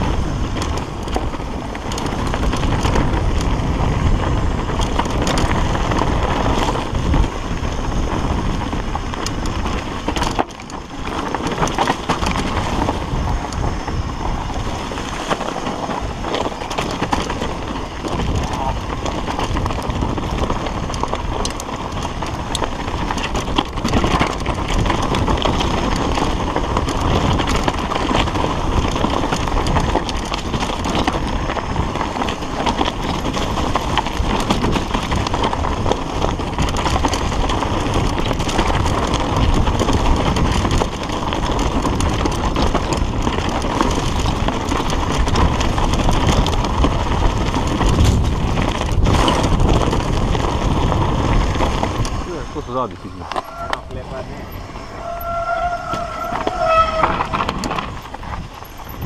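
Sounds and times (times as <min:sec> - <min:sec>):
bike rattling: 0:00.0 - 0:59.0
tyres crunching over stones: 0:00.1 - 0:59.0.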